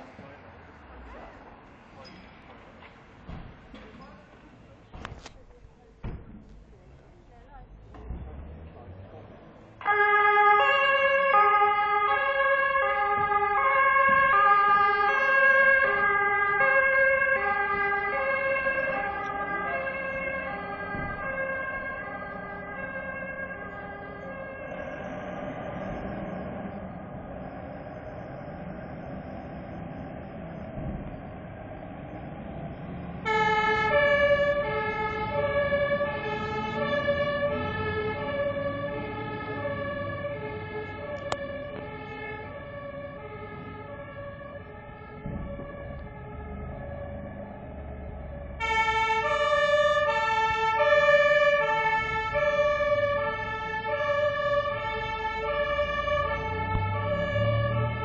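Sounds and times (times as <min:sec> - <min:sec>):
truck engine rumble: 0:00.0 - 0:58.0
two-tone fire engine sirens: 0:08.4 - 0:58.0.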